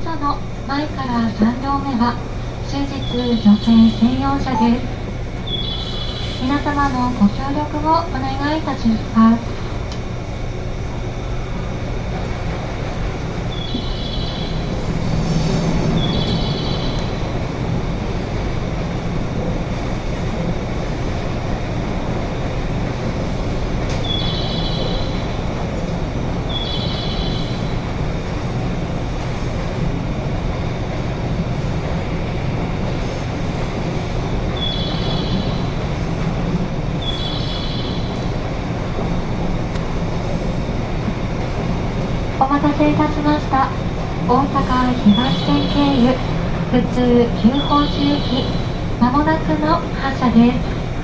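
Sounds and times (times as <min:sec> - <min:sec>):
electric train hum: 0:00.0 - 0:51.0.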